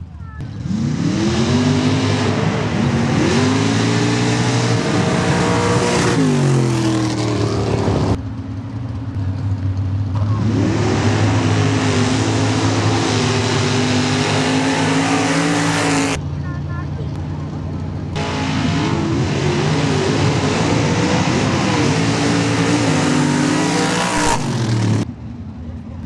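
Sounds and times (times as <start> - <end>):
truck engines at full throttle: 0.0 - 26.0.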